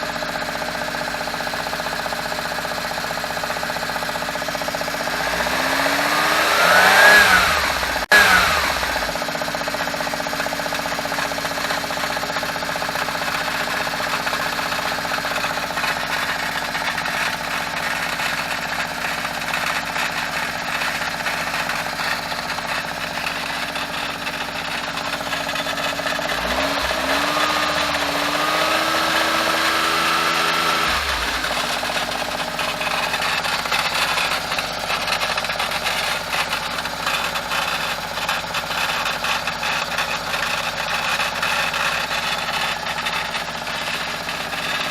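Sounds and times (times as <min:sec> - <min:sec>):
small engine idling and revving: 0:00.0 - 0:44.9
gearbox rattle: 0:06.8 - 0:29.9, 0:30.7 - 0:44.9.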